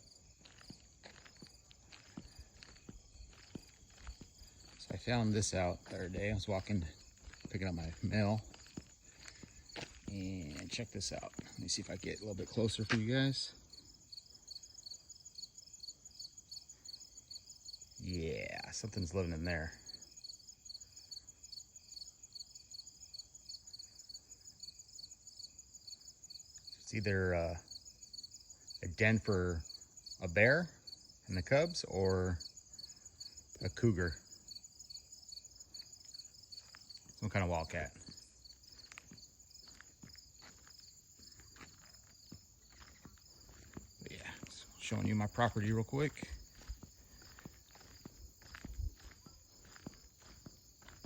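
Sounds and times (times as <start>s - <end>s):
crickets chirping: 0.0s - 51.0s
high insect trill: 0.0s - 51.0s.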